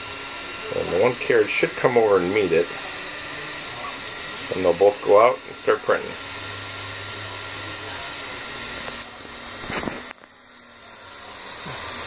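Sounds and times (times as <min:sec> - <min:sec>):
printer fans and motors whirring: 0:00.0 - 0:12.0.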